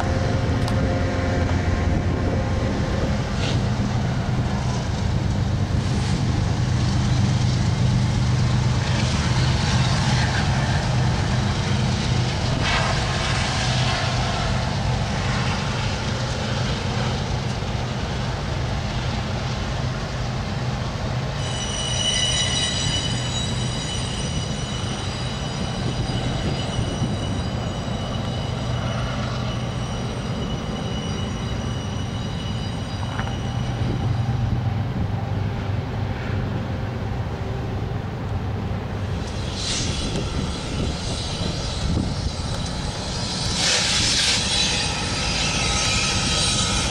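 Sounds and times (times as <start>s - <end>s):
train wheels squealing: 0.0s - 19.6s, 21.1s - 36.3s, 39.0s - 46.9s
freight train rumbling past: 0.0s - 46.9s.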